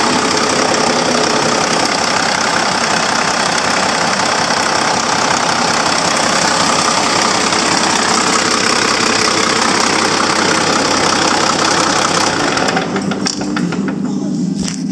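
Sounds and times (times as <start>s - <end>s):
diesel engine clattering: 0.0s - 14.9s.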